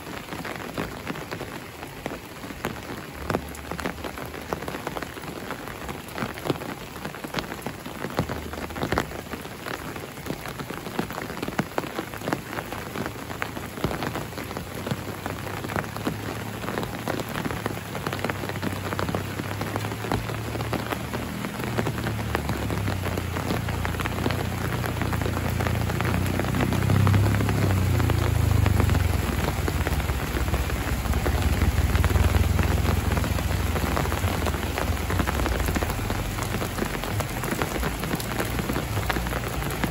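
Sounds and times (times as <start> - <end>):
steady rain with drop hits: 0.0 - 39.9.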